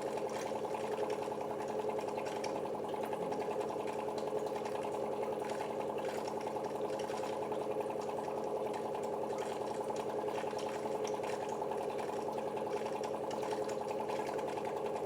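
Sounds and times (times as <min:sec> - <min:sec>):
water purifier pump humming: 0:00.0 - 0:15.0.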